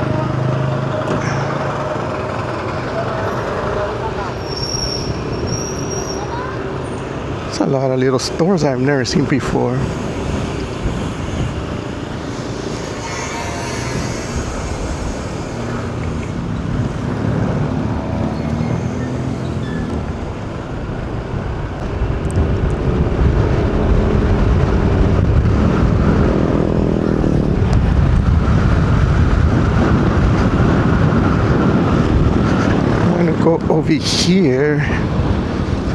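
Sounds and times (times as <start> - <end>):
car engine and tyre rumble: 0.0 - 35.9.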